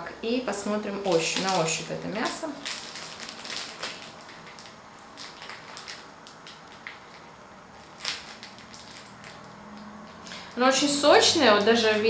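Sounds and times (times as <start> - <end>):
plastic packaging crinkling: 0.9 - 12.0.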